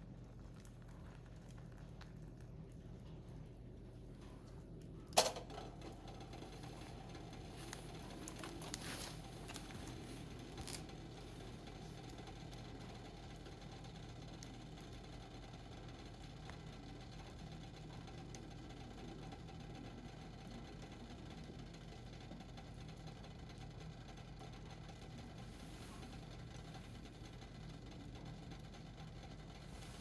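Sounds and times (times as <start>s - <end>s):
faint fire crackles: 0.0s - 30.0s
firewood burning: 0.0s - 30.0s.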